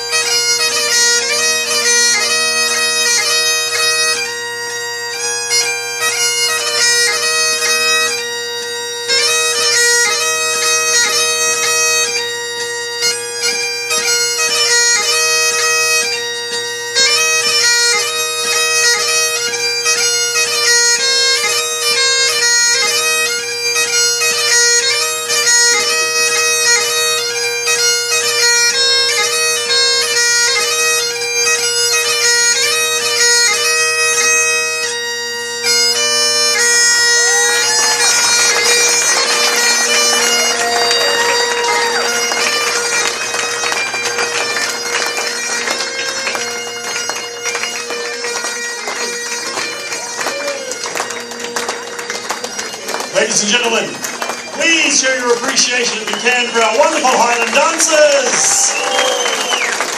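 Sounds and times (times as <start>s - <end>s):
bagpipe playing dance tune: 0.0s - 59.9s.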